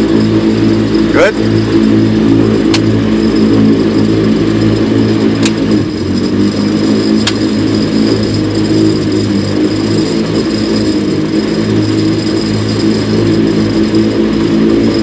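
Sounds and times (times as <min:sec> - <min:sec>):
aircraft engine running: 0:00.0 - 0:15.0.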